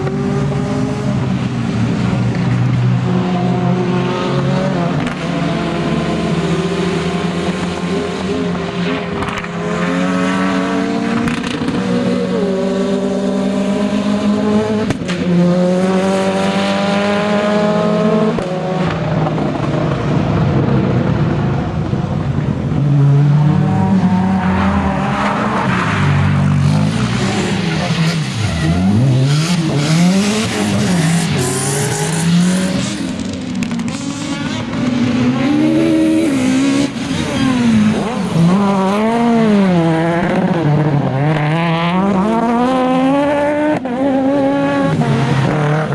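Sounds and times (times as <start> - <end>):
rally car engine revving: 0.0 - 45.9
second rally car engine: 0.0 - 45.9.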